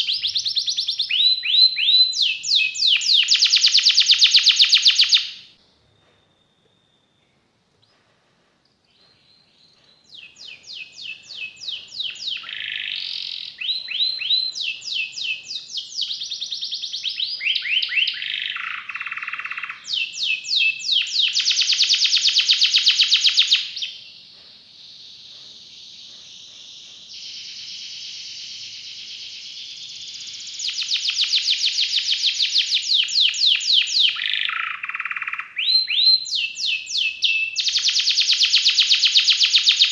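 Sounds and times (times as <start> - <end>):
canary singing trills: 0.0 - 7.2, 8.9 - 39.9.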